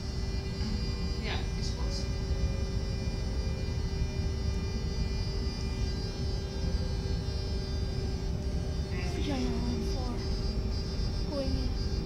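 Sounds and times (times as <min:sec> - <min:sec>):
electrical hum: 0:00.0 - 0:12.0
train low rumble: 0:00.0 - 0:12.0.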